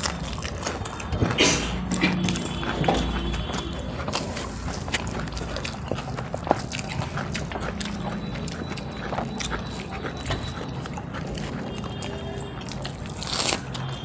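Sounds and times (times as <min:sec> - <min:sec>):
fingers kneading rice on metal plates: 0:00.0 - 0:14.0
people chewing and lip-smacking: 0:00.0 - 0:14.0.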